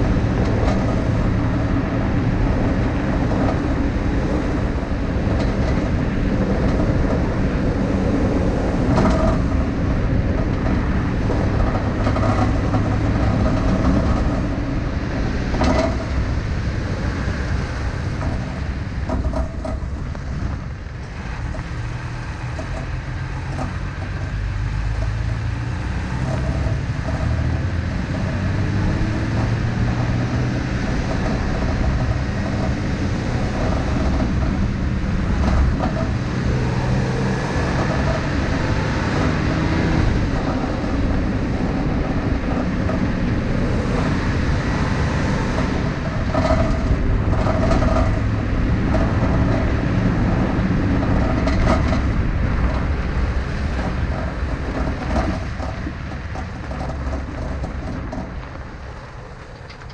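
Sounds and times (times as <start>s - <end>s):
tyres rumbling on dirt road: 0.0s - 59.9s.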